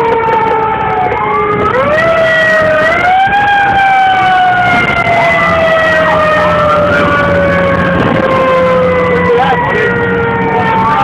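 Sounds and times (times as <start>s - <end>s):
faint wavering siren: 0.0s - 11.0s
fire engine siren: 0.0s - 11.0s.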